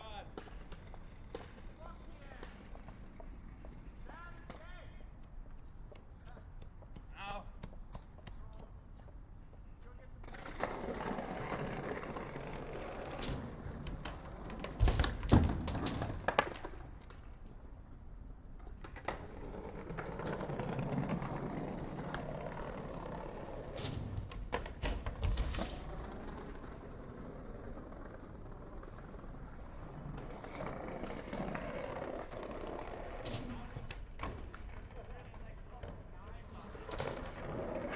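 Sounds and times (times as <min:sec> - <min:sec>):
skateboard clacking on ground: 0:00.0 - 0:37.9
skateboard wheels rolling on pavement: 0:00.0 - 0:37.9.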